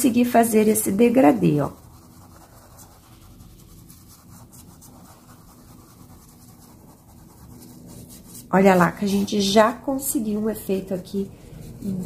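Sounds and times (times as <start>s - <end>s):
paintbrush rubbing on cloth: 0.3s - 12.0s.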